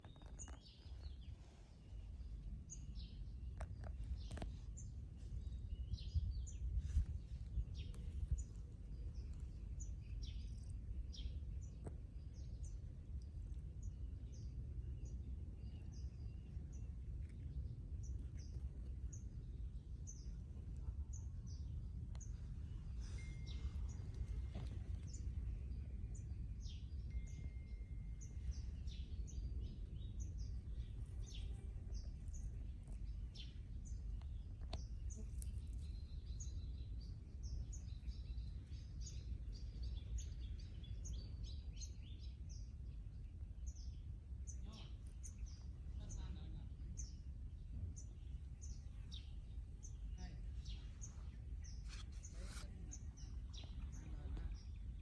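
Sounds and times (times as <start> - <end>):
low rumbling background noise: 0.0 - 55.0
small birds chirping: 0.0 - 55.0.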